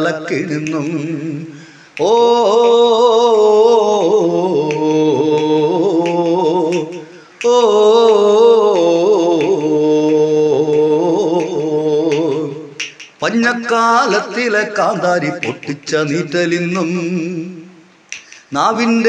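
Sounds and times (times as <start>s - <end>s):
person singing a long vowel: 0.0s - 19.0s.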